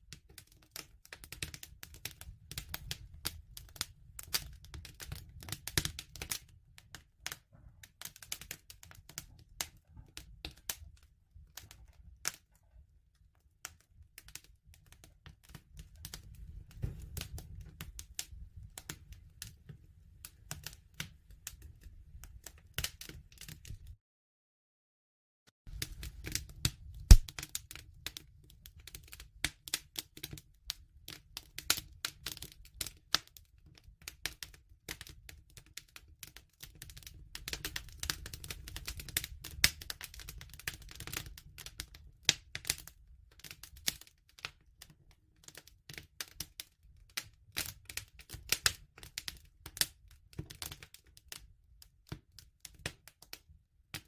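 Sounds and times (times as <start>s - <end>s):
wood fire crackling: 0.1s - 23.9s, 25.7s - 46.6s, 47.5s - 51.4s.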